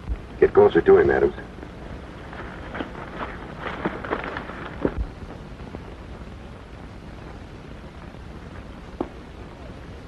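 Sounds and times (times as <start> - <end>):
film soundtrack hiss and rumble: 0.0 - 10.0.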